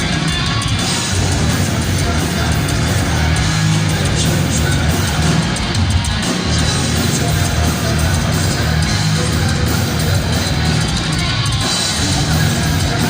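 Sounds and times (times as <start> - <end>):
live heavy metal band: 0.0 - 13.0.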